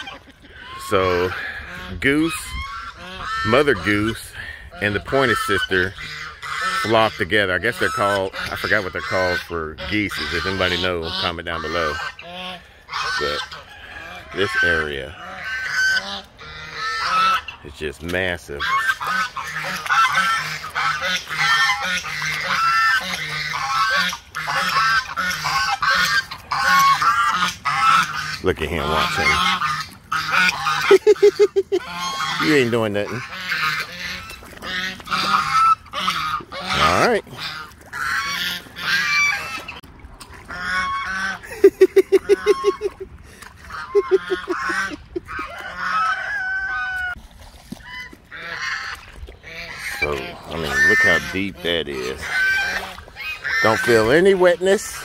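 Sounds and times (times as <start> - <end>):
geese honking: 0.0 - 47.2, 47.8 - 55.0.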